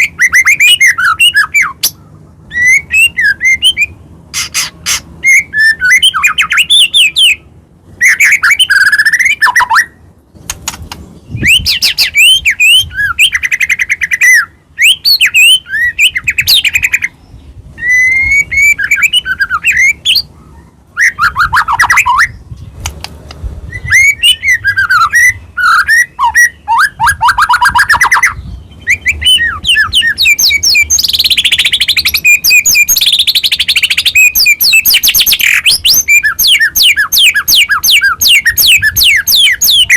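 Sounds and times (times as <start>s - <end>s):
bird singing whistles and trills: 0.0s - 10.0s, 11.2s - 22.6s, 23.7s - 39.9s.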